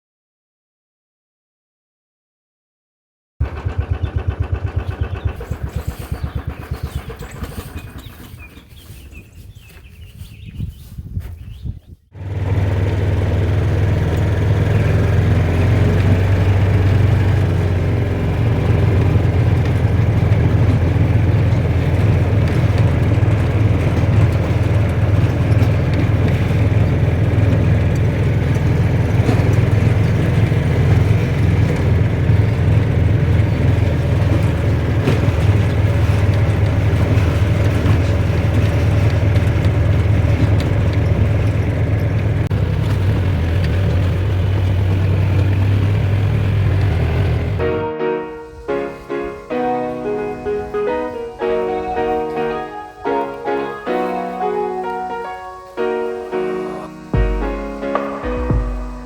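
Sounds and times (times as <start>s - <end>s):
low engine drone: 3.4s - 9.0s, 12.2s - 59.0s
engine chugging: 3.4s - 9.6s, 12.2s - 55.1s, 55.8s - 59.0s.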